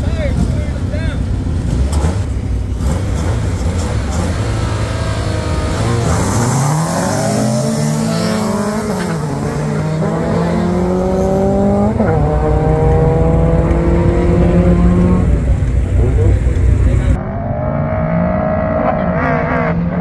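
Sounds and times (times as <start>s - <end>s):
racing cars accelerating: 0.0s - 20.0s.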